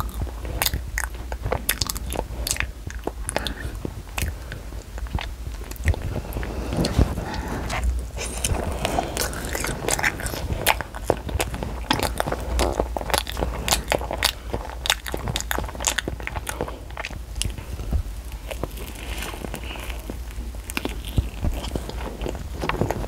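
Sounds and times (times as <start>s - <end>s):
child chewing food: 0.0s - 23.0s
low hum: 0.0s - 23.0s.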